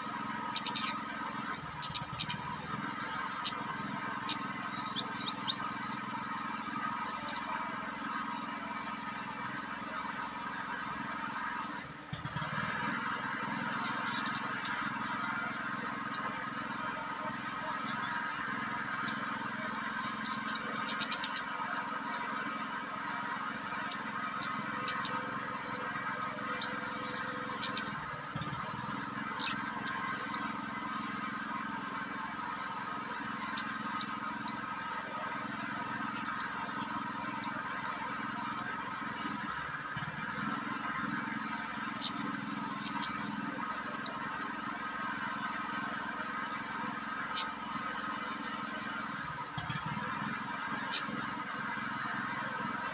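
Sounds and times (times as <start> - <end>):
songbird chirping and trilling: 0.0 - 52.9
steady hum: 0.0 - 52.9.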